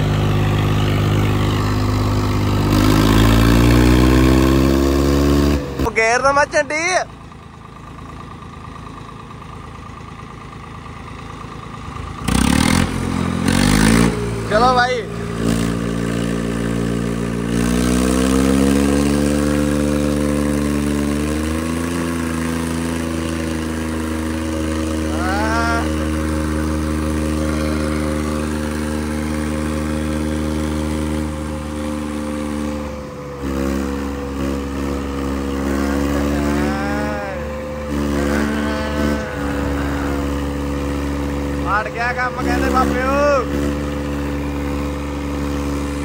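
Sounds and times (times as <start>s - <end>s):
tractor diesel engines revving: 0.0s - 46.0s.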